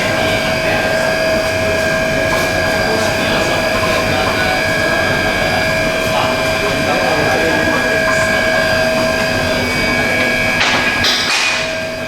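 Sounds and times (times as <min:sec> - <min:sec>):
high-pitched machine whine: 0:00.0 - 0:12.0
machinery running: 0:00.0 - 0:12.0.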